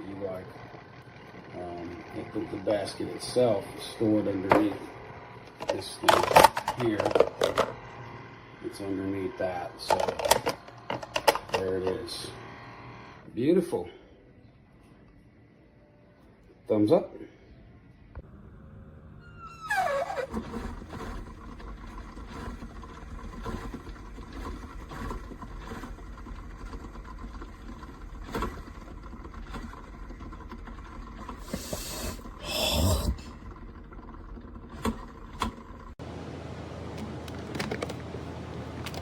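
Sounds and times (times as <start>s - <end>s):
low steady hum: 0.0s - 19.6s, 21.0s - 39.0s.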